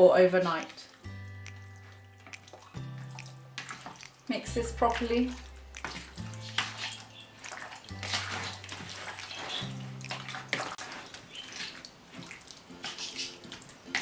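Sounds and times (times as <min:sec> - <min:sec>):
background music with held notes: 0:00.0 - 0:10.8, 0:12.1 - 0:14.0
wet squelching of mixed meat: 0:00.5 - 0:14.0.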